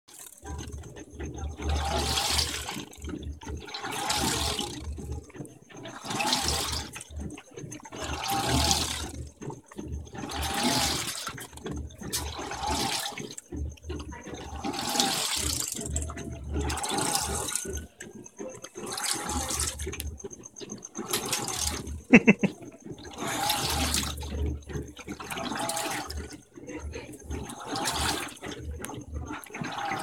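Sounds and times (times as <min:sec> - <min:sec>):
drive motor hum: 0:00.1 - 0:30.0
washing machine agitating: 0:00.1 - 0:30.0.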